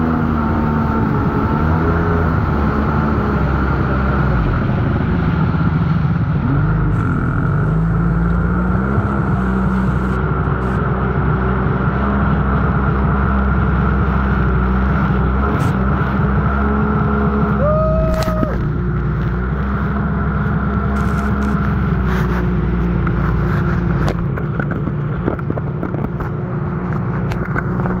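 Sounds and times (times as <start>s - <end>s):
jet ski engine running: 0.0s - 28.0s
water rushing and splashing: 0.4s - 28.0s.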